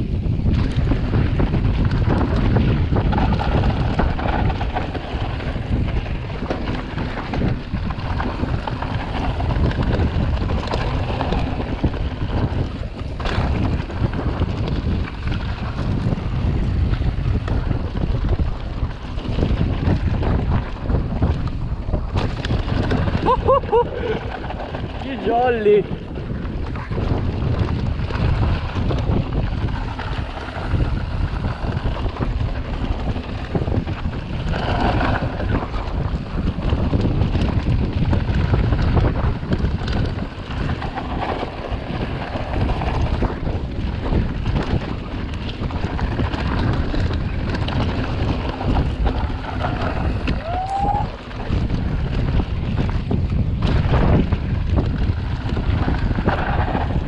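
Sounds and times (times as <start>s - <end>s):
mountain bike rumble on dirt: 0.0s - 57.0s
wind on microphone: 0.0s - 57.0s.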